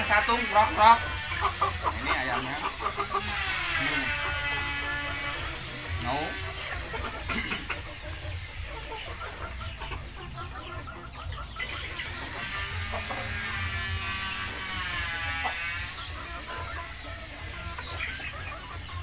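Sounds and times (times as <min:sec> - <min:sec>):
chickens clucking and chirping: 0:00.0 - 0:19.0.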